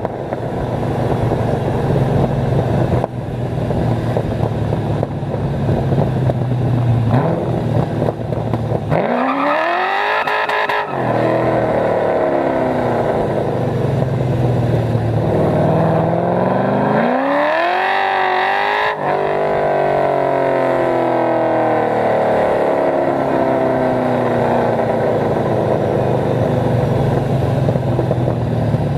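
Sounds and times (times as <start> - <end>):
car engine revving: 3.7 - 28.1.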